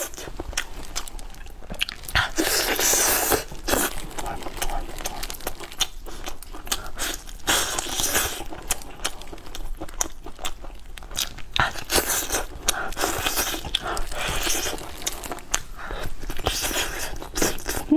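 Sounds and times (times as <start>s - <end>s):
chewing and crunching chicken: 0.0s - 17.9s.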